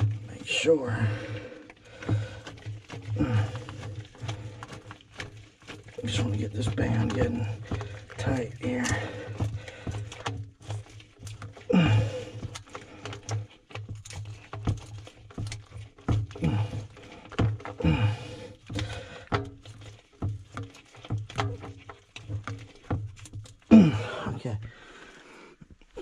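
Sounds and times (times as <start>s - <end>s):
small clicks and knocks: 1.6s - 17.8s, 18.5s - 23.7s.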